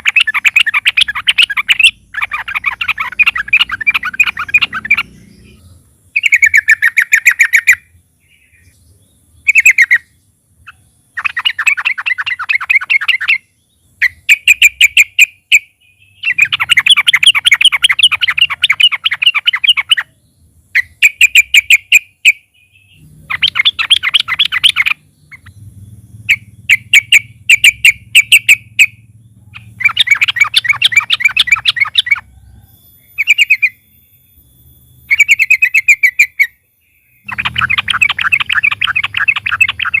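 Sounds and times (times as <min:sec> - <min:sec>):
bird singing chattering notes: 0:00.0 - 0:40.0.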